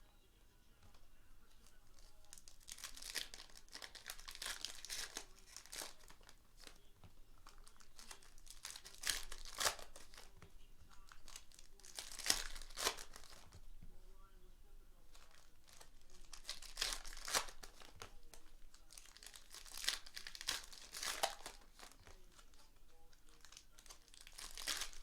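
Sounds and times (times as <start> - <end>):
plastic wrapping tearing and crinkling: 1.6 - 13.6, 15.1 - 25.0.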